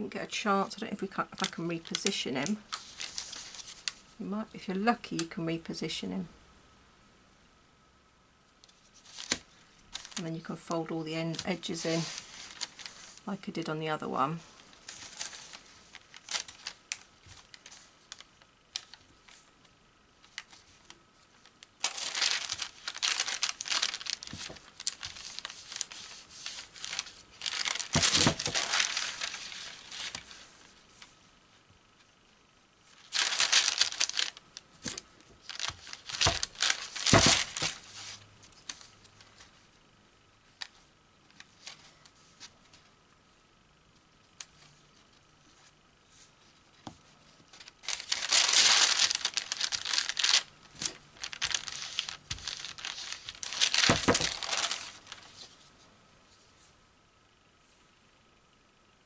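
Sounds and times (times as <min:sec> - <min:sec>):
fibre sheet crinkling: 0:00.2 - 0:05.7, 0:08.6 - 0:39.8, 0:40.4 - 0:43.0, 0:43.9 - 0:56.6
quiet handling noise: 0:08.5 - 0:58.6.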